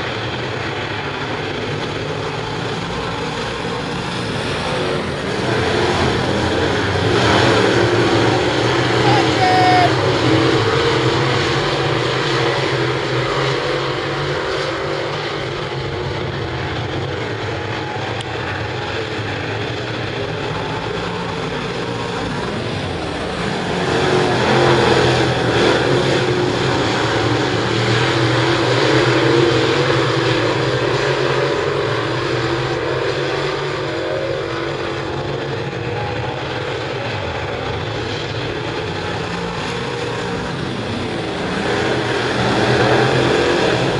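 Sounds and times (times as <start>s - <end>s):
race car engines: 0.0s - 43.9s.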